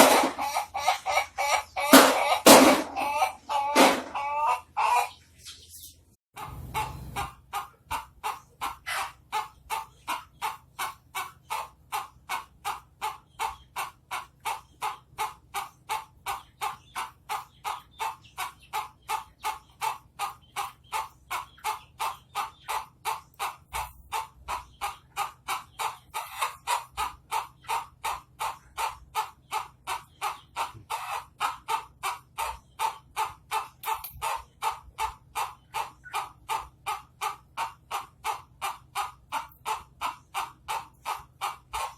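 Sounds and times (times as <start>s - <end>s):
chicken cackling crow: 0.0s - 5.3s, 6.4s - 41.9s.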